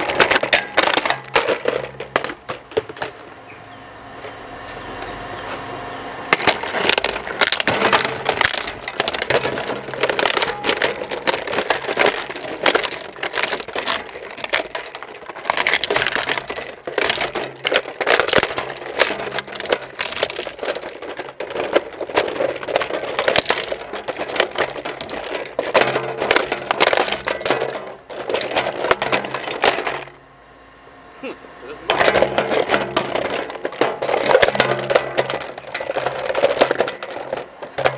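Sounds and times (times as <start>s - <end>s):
plastic cracking and crunching: 0.0s - 3.2s, 6.3s - 30.2s, 31.9s - 37.9s
shredder machine running hum: 0.0s - 37.9s.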